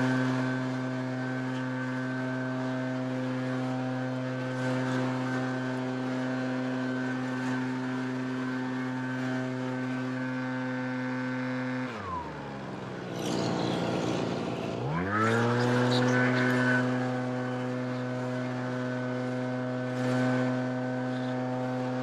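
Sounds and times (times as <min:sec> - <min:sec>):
leaf blower engine revving: 0:00.0 - 0:22.0.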